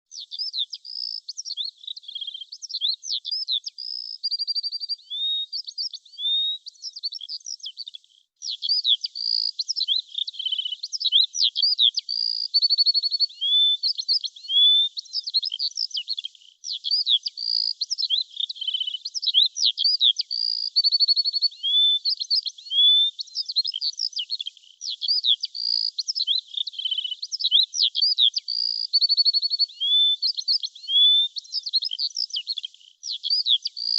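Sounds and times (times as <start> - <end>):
songbird chirping and trilling: 0.0 - 33.9.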